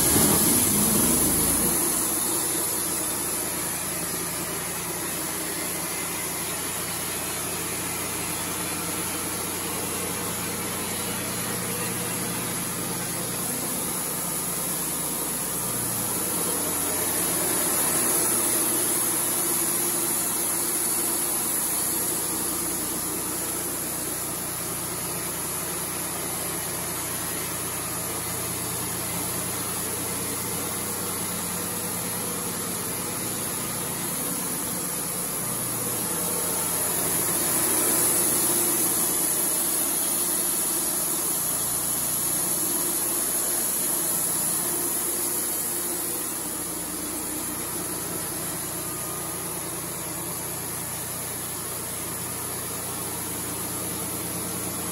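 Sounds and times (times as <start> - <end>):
band sawmill running: 0.0 - 54.9.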